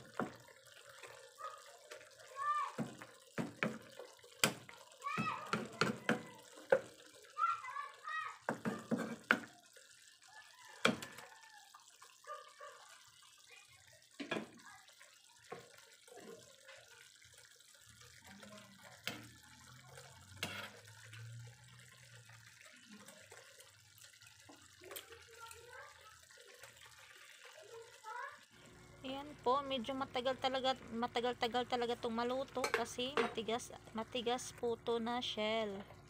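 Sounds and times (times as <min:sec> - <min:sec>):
clams simmering with bubbling: 0:00.0 - 0:36.0.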